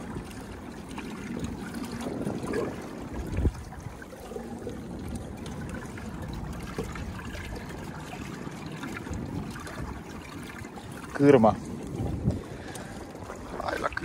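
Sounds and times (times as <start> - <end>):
water lapping along kayak hull: 0.0 - 14.0.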